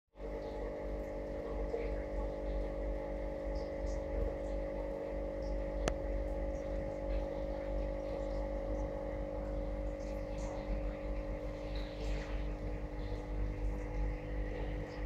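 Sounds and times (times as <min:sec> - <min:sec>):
steady mechanical hum: 0:00.2 - 0:15.0.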